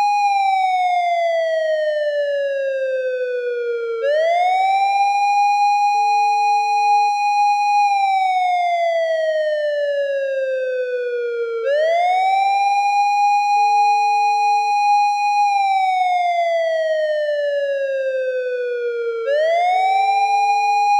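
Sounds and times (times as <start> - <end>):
police siren wailing: 0.0 - 20.9.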